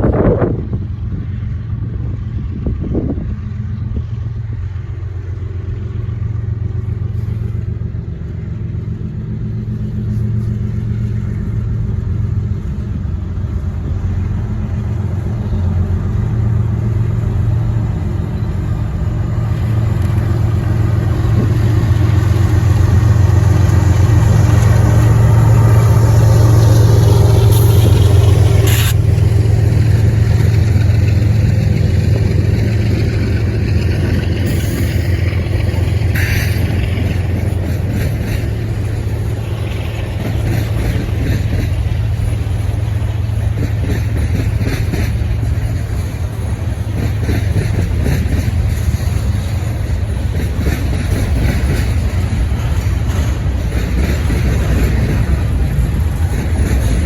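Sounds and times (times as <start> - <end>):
diesel locomotives running: 0.0 - 57.0.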